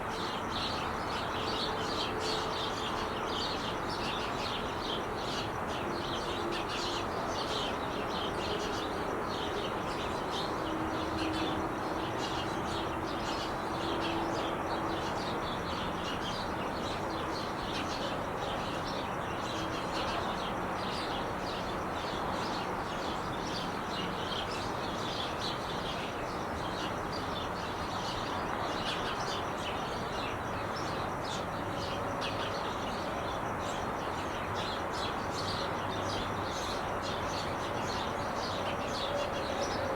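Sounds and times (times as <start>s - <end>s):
freeway traffic noise: 0.1s - 39.9s.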